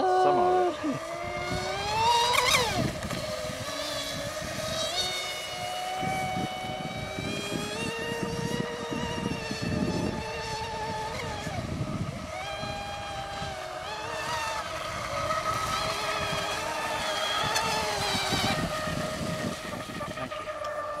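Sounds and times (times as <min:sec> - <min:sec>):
electric motors whining: 0:00.0 - 0:21.0
wind rumble on microphone: 0:00.0 - 0:21.0.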